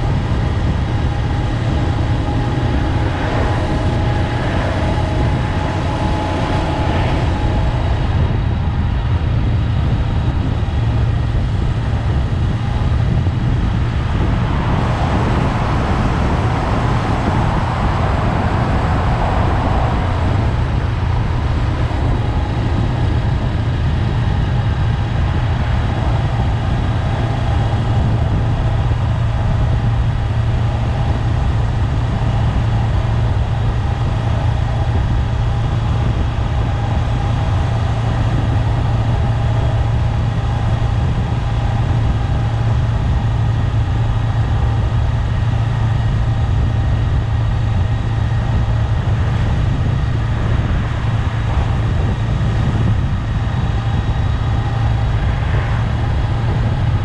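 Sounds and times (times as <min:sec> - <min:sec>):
motorcycle engine humming: 0:00.0 - 0:57.0
road and wind noise: 0:00.0 - 0:57.0.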